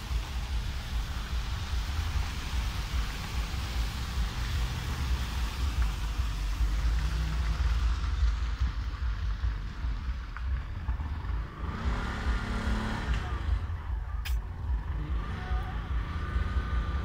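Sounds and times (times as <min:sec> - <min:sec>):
faint hiss: 0:00.0 - 0:17.0
fluttering low rumble: 0:00.0 - 0:17.0.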